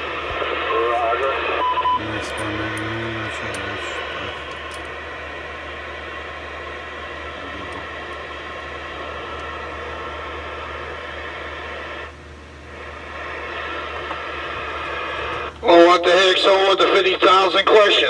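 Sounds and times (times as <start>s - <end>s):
radio receiver hiss and static: 0.0s - 18.0s.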